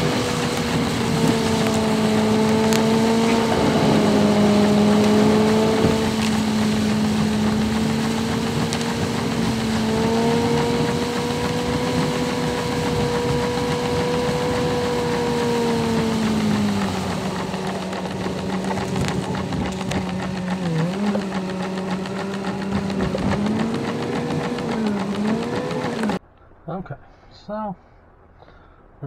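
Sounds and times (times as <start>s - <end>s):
heavy rain on roof: 0.0s - 26.2s
vehicle engine hum: 0.0s - 26.3s.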